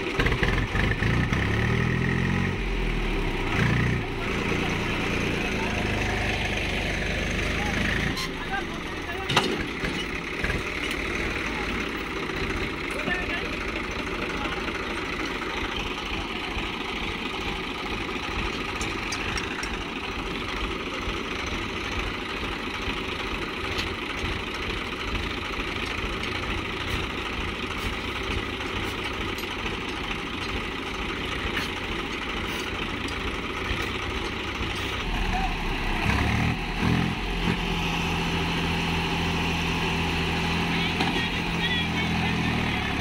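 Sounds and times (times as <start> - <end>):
tractor diesel engines idling: 0.0 - 43.0.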